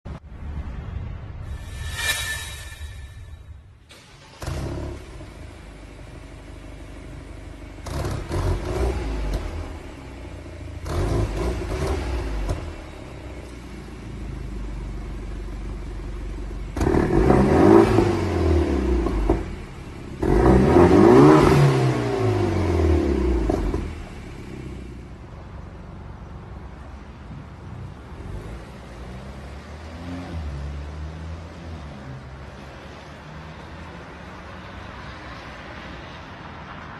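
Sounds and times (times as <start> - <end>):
car engine idling and revving: 3.9 - 36.7.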